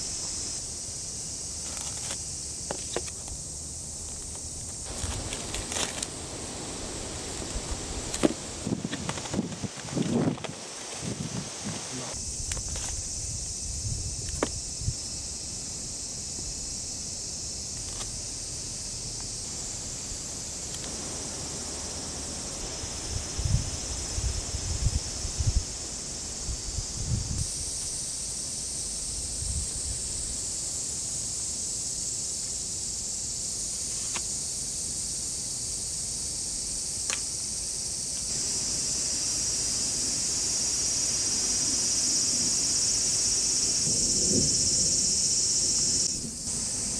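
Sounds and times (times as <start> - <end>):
insects chorus: 0.0 - 46.9.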